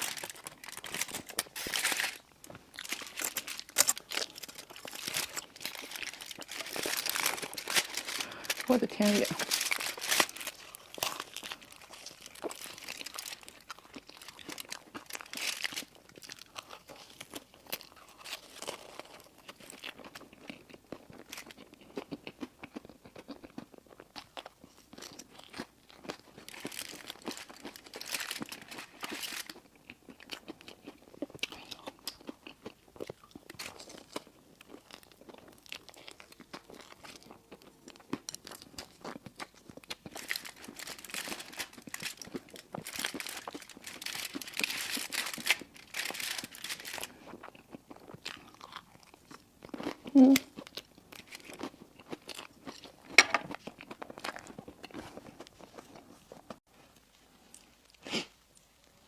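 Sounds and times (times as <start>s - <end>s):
person chewing crunchy candy: 0.0s - 56.6s.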